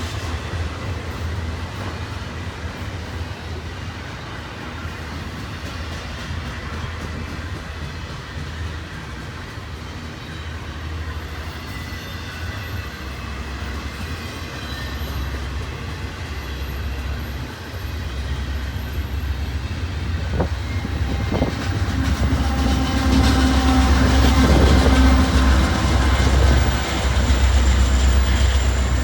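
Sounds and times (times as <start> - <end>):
train wheels clicking: 0.0 - 29.0
train wheels rumbling on rail: 0.0 - 29.0.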